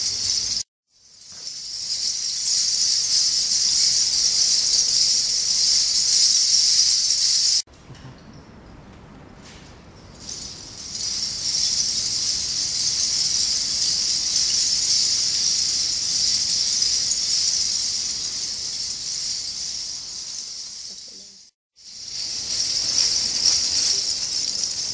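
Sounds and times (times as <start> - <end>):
bottle caps jingling and clattering: 0.0 - 7.6, 10.2 - 21.1, 21.9 - 24.9.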